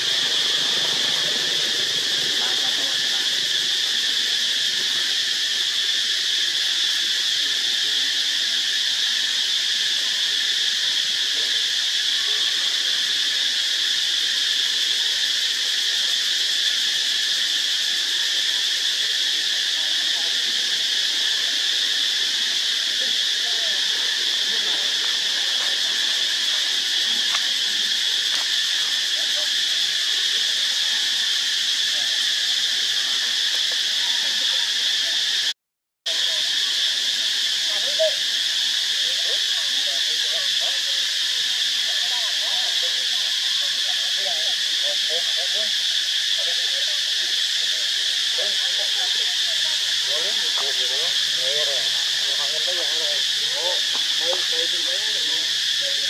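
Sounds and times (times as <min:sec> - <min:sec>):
insect chorus drone: 0:00.0 - 0:35.5, 0:36.1 - 0:56.0.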